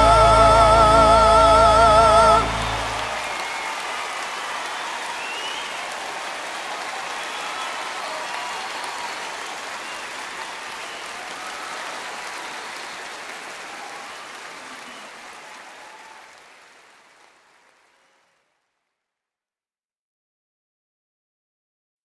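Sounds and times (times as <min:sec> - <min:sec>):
audience applause: 0:00.8 - 0:18.8.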